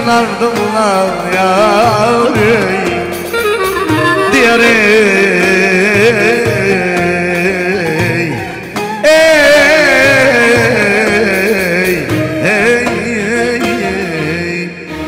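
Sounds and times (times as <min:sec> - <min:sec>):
electronic keyboard music: 0:00.0 - 0:15.0.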